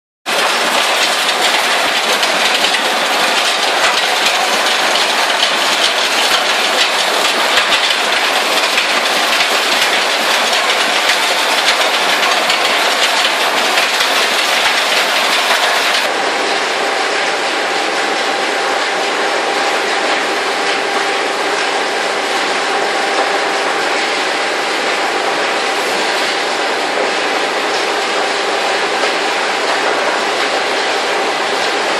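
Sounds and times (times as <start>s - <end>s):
conveyor belt rushing and rattling: 0.3s - 31.9s.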